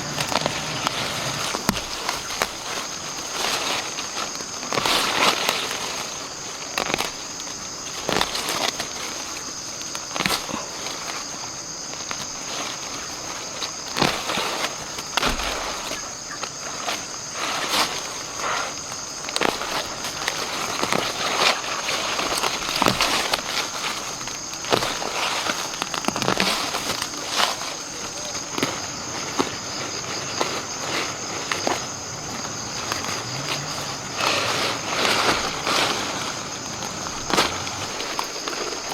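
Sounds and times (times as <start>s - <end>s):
insects shrilling: 0.0s - 38.9s
knocks and crackles: 0.0s - 38.9s.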